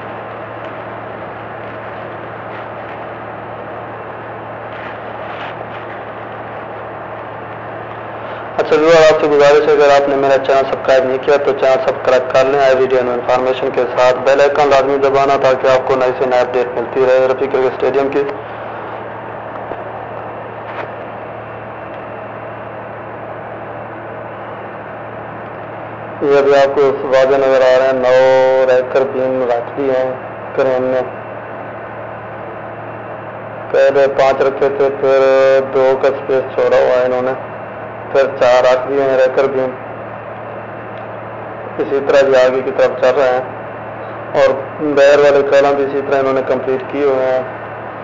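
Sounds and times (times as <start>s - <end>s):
diesel engines humming: 0.0s - 48.0s.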